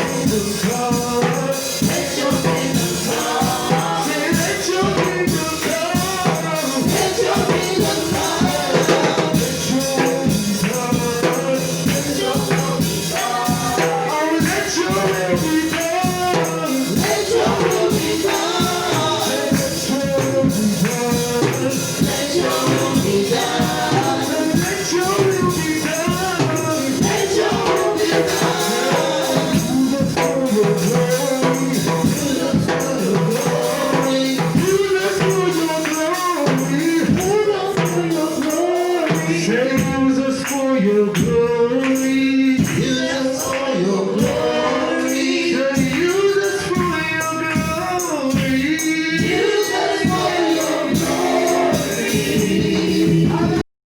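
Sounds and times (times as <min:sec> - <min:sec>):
tambourine: 0:00.0 - 0:53.6
voices singing praise music: 0:00.0 - 0:53.6.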